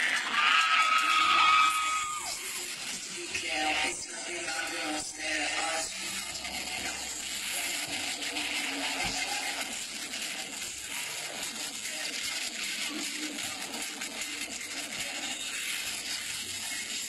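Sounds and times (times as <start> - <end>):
crowd voices and clatter: 0.0 - 17.0
dance music: 0.0 - 17.0.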